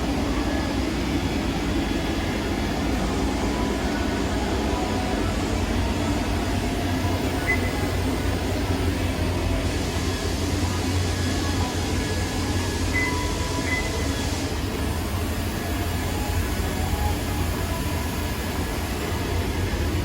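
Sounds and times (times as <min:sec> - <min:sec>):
machining center humming: 0:00.0 - 0:20.0.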